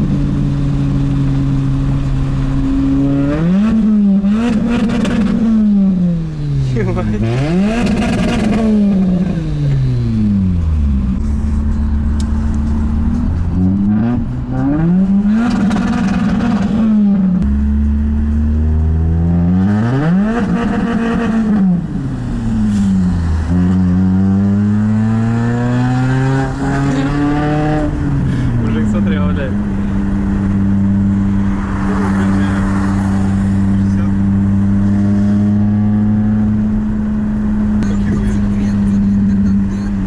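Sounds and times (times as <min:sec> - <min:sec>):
loud car engine revving: 0:00.0 - 0:40.0.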